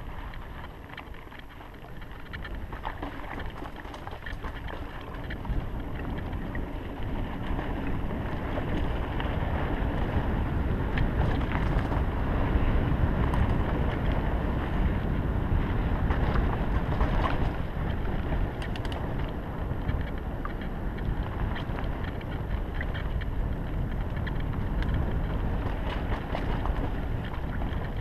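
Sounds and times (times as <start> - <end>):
bike clicks and rattles: 0.0 - 28.0
wind buffeting microphone: 0.0 - 28.0.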